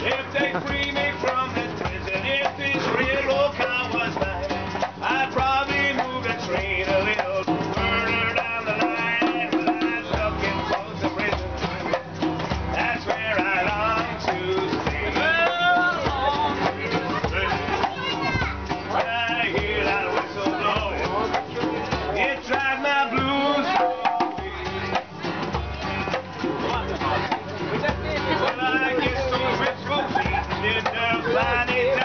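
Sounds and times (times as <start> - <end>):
djembe hand drum: 0.0 - 32.0
strummed acoustic guitar: 0.0 - 32.0.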